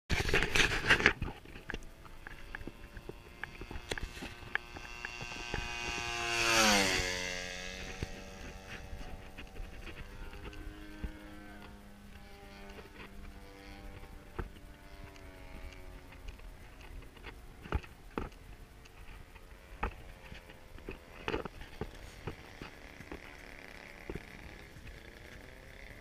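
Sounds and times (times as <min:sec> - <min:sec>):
model plane engine flyby: 0:00.2 - 0:26.0.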